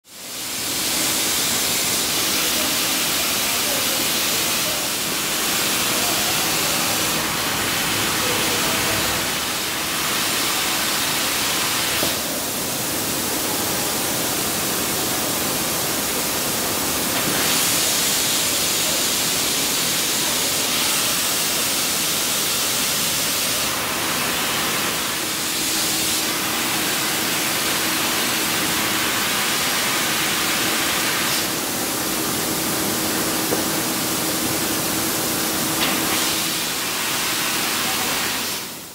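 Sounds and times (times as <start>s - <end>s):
rushing factory machinery noise: 0.2s - 38.9s.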